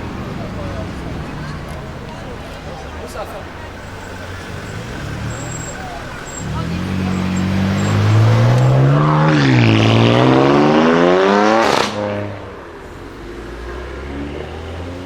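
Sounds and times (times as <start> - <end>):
exhaust crack: 0.0 - 12.9
car engine accelerating: 0.0 - 15.0.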